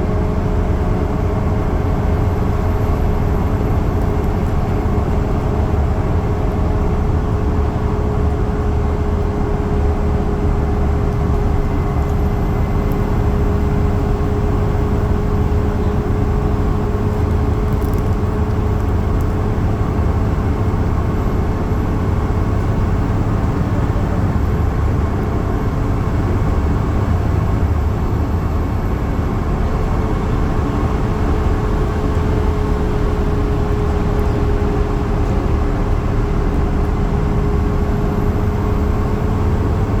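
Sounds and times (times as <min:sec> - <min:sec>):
bus engine and road rumble: 0:00.0 - 0:40.0.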